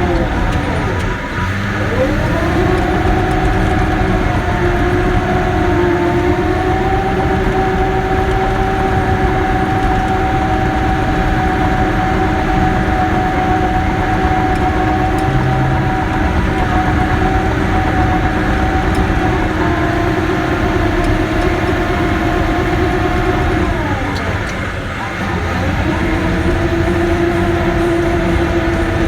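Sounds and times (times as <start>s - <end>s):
bulldozer engine running: 0.0s - 29.0s
high whine: 0.0s - 29.0s.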